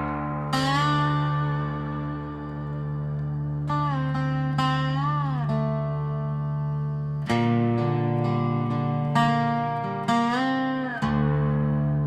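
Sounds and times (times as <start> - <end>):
guitar notes ringing: 0.0 - 12.0.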